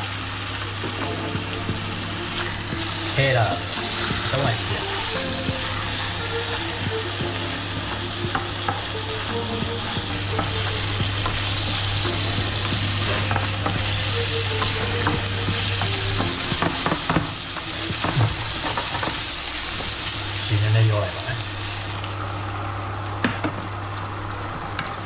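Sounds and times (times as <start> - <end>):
chicken sizzling in hot oil: 0.0 - 25.0.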